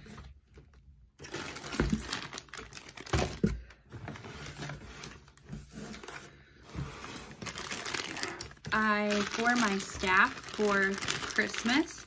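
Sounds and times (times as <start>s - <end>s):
packaging rustling and crackling: 1.1s - 12.0s.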